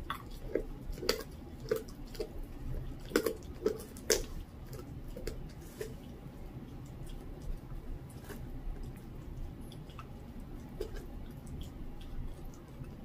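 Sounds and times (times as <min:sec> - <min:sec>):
dog chewing and tearing meat: 0:00.0 - 0:13.0.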